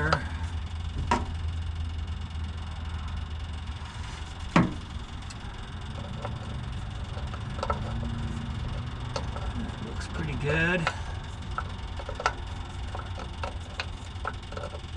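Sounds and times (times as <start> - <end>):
electric fuel pump humming: 0.0 - 14.9.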